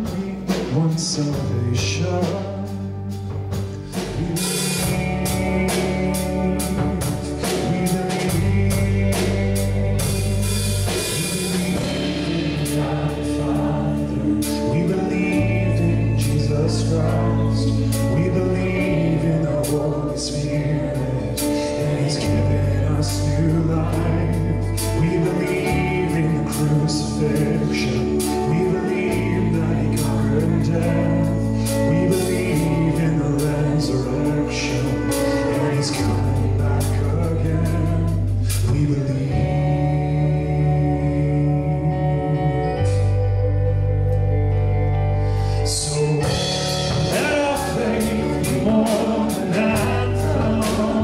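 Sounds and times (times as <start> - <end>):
electric bass: 0.0 - 51.0
keyboard: 0.0 - 51.0
live band playing: 0.0 - 51.0
person singing: 0.0 - 51.0.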